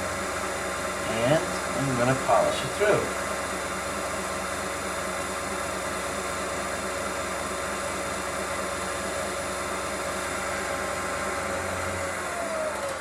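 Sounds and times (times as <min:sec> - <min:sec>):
wood lathe whirring: 0:00.0 - 0:13.0.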